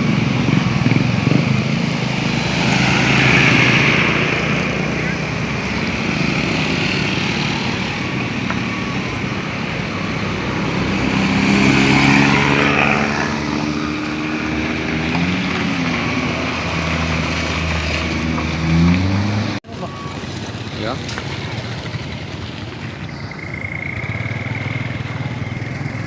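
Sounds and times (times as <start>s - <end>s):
vehicle engines on road: 0.0s - 26.0s
vehicle passing: 0.0s - 26.0s.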